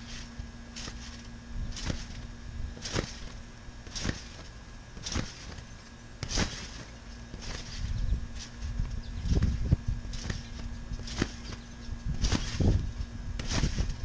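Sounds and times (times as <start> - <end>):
trampoline springs bouncing: 0.0 - 14.0.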